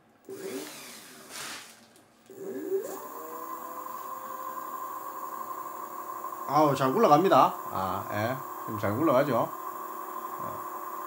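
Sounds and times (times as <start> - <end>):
electric motor whine: 0.3 - 11.0.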